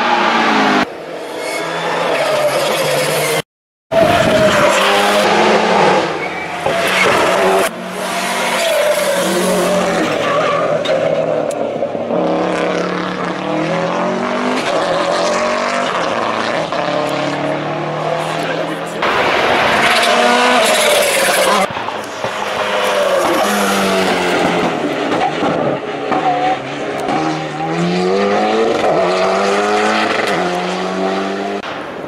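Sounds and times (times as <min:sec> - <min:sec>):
rally car engines revving: 0:00.0 - 0:31.7.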